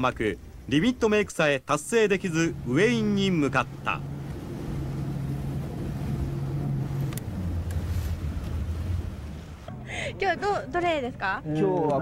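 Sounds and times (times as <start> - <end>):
outboard motor humming: 0.0 - 10.5
wind and water rushing: 0.0 - 10.9.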